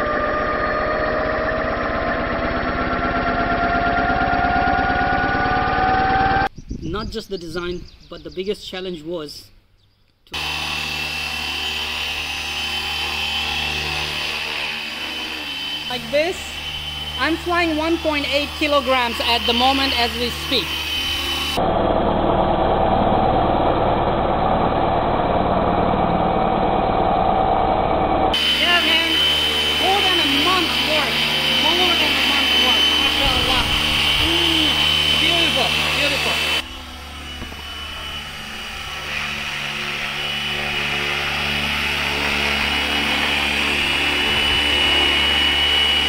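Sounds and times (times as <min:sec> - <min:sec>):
main rotor chopping: 0:00.0 - 0:06.5, 0:10.3 - 0:46.0
rc helicopter motor whine: 0:00.0 - 0:06.5, 0:10.3 - 0:46.0.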